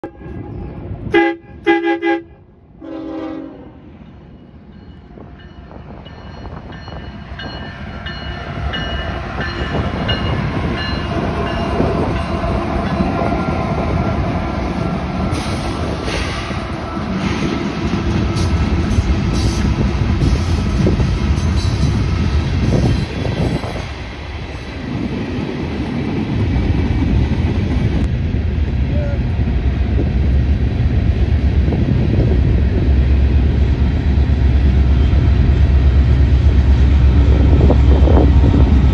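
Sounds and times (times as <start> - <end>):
diesel locomotives rumbling: 0.0 - 38.9.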